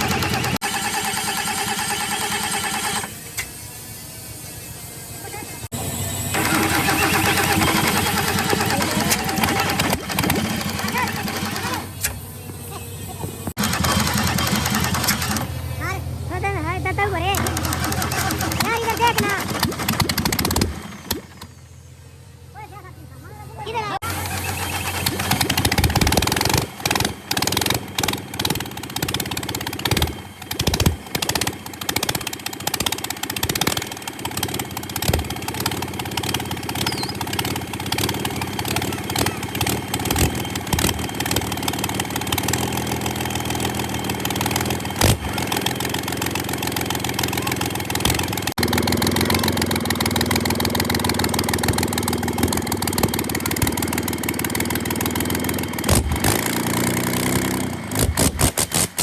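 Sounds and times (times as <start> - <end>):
diesel engine idling: 0.0 - 58.3.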